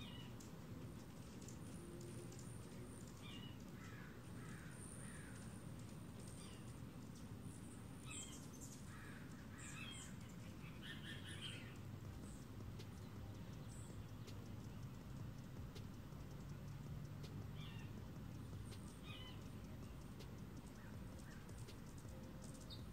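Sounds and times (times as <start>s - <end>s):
low background rumble: 0.0s - 22.9s.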